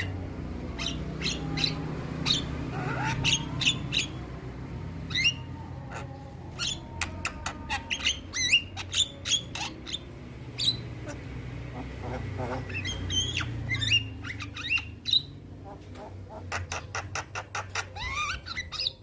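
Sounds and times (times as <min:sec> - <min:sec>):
myna calling: 0:00.0 - 0:04.3, 0:05.0 - 0:19.0.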